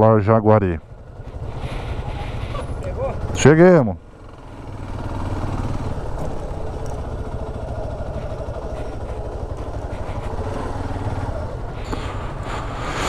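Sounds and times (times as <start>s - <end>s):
motorcycle engine at low revs: 0.7s - 13.0s.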